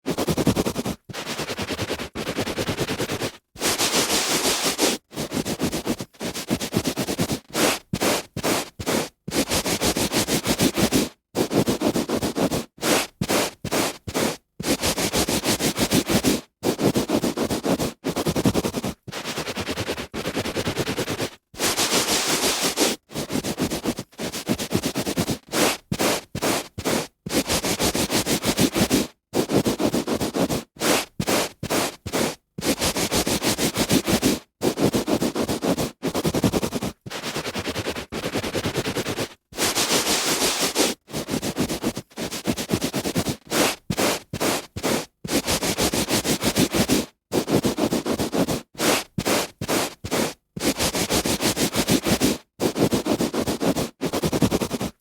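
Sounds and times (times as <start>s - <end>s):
hand rubbing on carpet: 0.1s - 55.0s.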